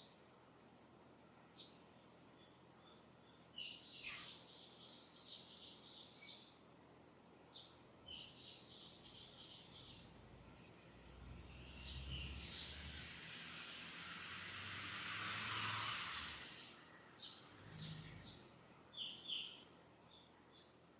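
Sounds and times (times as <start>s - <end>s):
songbird chirping: 1.5s - 6.6s, 7.4s - 20.9s.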